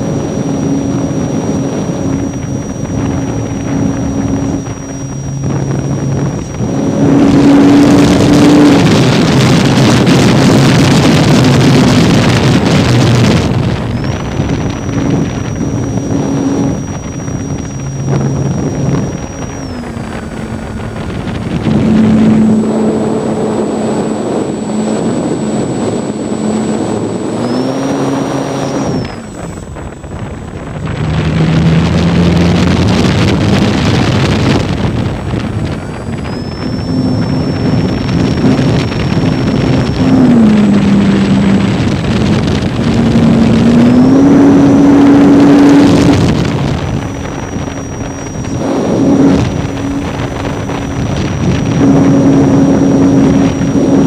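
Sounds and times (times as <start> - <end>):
electric motor hum: 0.0 - 54.0
wind on microphone: 0.0 - 54.0.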